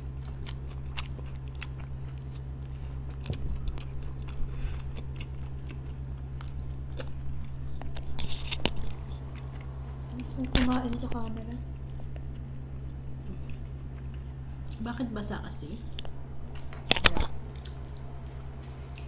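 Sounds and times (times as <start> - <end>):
steady low hum: 0.0 - 19.0
chewing with wet mouth clicks: 0.1 - 14.8, 15.9 - 19.0.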